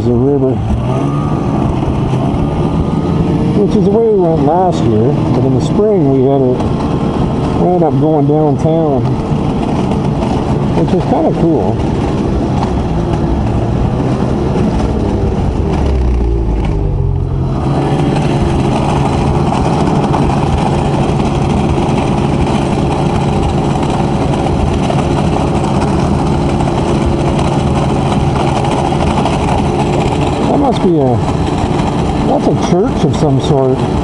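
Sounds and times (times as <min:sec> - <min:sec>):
snowmobile engine running: 0:00.0 - 0:34.0.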